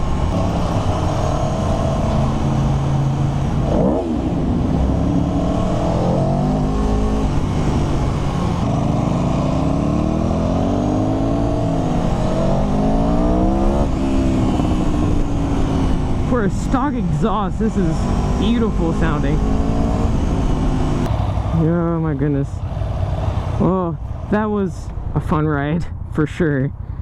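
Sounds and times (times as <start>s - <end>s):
motorcycle engine revving: 0.0s - 25.4s.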